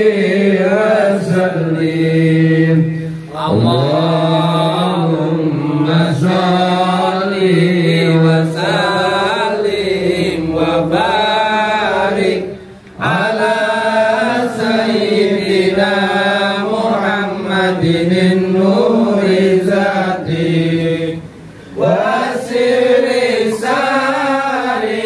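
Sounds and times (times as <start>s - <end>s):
voices chanting devotional song: 0.0s - 25.0s.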